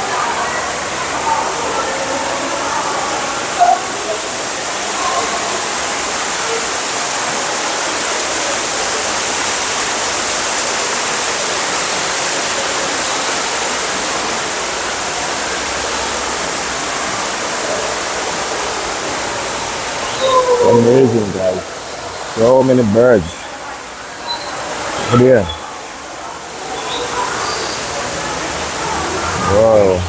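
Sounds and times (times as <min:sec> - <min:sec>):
rushing falling water: 0:00.0 - 0:30.0.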